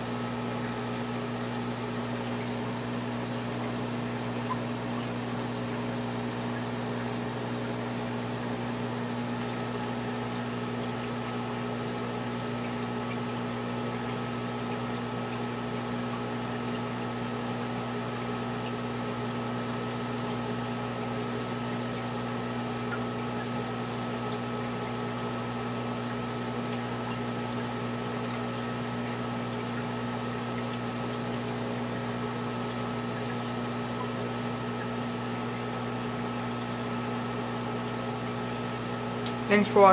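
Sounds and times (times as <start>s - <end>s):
low electric hum: 0.0s - 39.9s.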